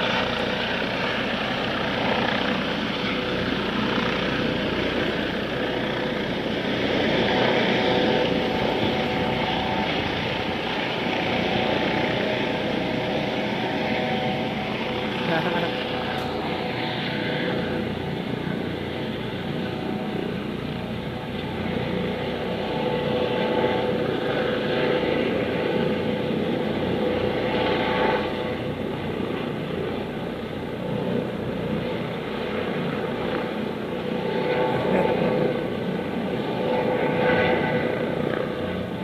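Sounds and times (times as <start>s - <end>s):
helicopter drone: 0.0s - 39.0s.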